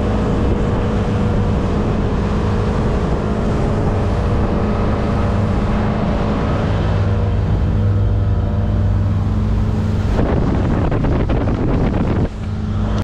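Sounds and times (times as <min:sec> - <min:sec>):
motorboat engine droning: 0:00.0 - 0:13.0
wind and water rushing: 0:00.0 - 0:13.0.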